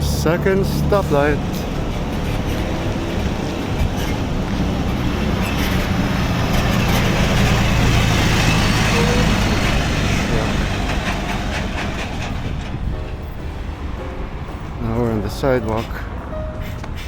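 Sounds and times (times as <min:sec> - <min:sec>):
large vehicle passing: 0:00.0 - 0:17.0.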